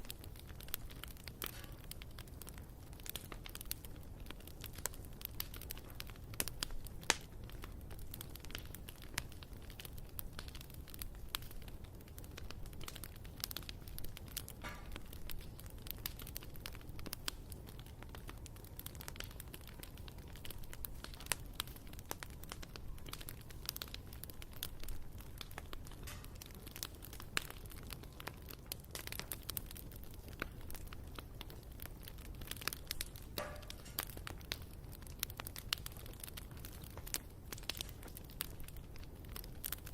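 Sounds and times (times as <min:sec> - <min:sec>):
bonfire crackling: 0:00.0 - 0:39.9
low fire rumble: 0:00.0 - 0:39.9.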